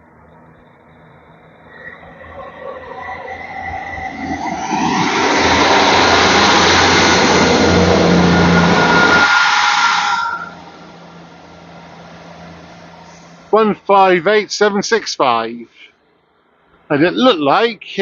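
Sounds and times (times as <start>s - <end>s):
diesel train passing close by: 0.0s - 14.4s.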